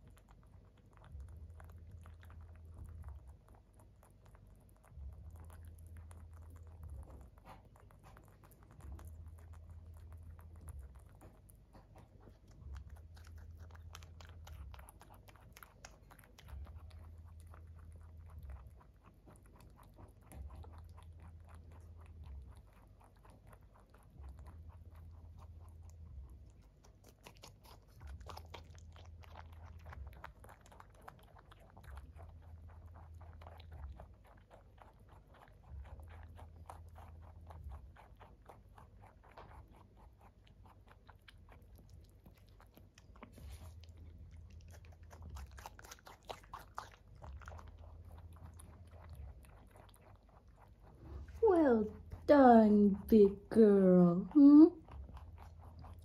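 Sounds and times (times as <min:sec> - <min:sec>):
low hum: 0:00.0 - 0:56.0
rabbit chewing crunchy food: 0:00.0 - 0:56.0.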